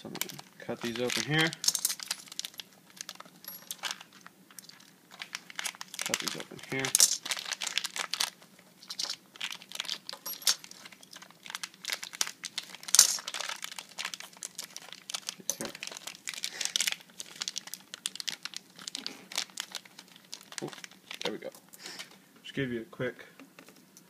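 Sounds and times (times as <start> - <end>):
plastic bags crinkling: 0.0 - 22.2.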